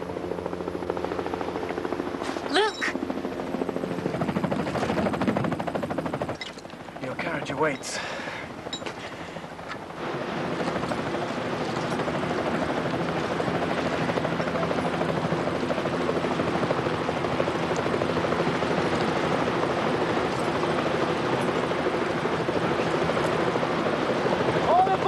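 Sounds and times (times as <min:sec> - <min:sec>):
helicopter engine drone: 0:00.0 - 0:25.0
helicopter rotor beating: 0:00.0 - 0:25.0.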